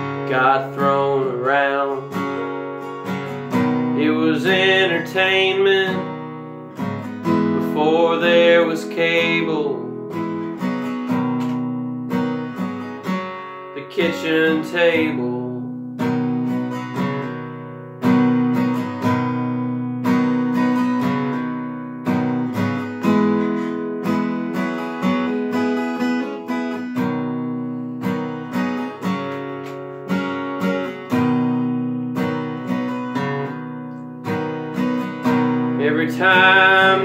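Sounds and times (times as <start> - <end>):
acoustic guitar strummed chords: 0.0 - 37.0.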